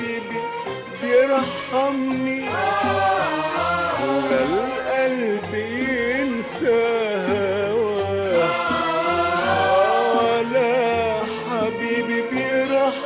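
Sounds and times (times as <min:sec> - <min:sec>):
classical arabic orchestral music: 0:00.0 - 0:13.0.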